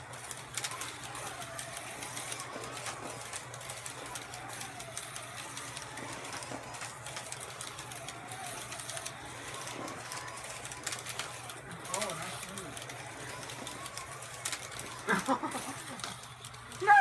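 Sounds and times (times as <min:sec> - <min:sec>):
slot car motors whining: 0:00.0 - 0:17.0.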